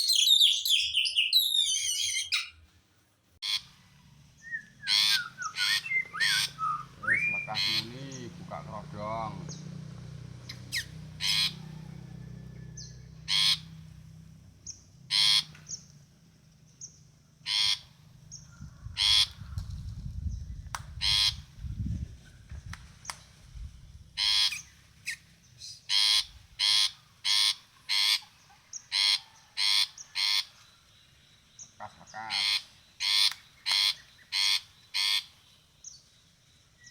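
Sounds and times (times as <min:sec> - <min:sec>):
songbird harsh calls: 0:00.0 - 0:02.6, 0:03.4 - 0:16.0, 0:16.6 - 0:21.9, 0:24.1 - 0:36.9.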